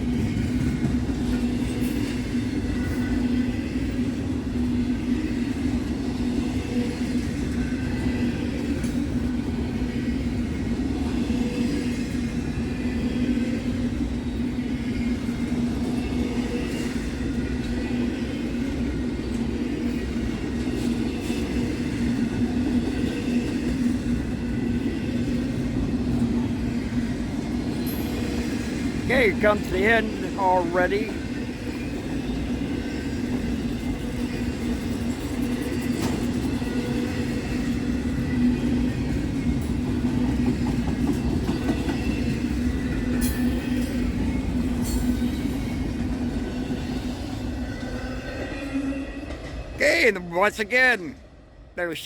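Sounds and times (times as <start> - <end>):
train wheels rumbling on rail: 0.0 - 49.8.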